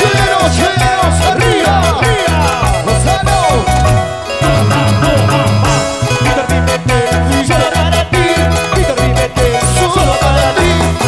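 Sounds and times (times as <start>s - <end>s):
latin dance band playing: 0.0s - 11.0s
pumping bass line: 0.0s - 11.0s.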